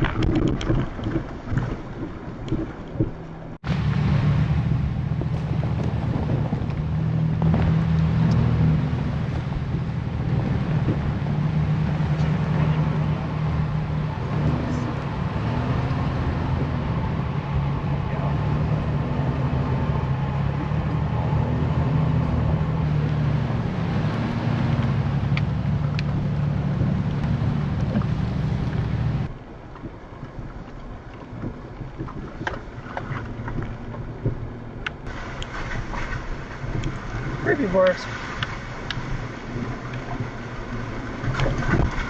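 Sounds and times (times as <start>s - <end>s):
road noise: 0.0s - 42.0s
vehicle engine hum: 0.0s - 42.0s.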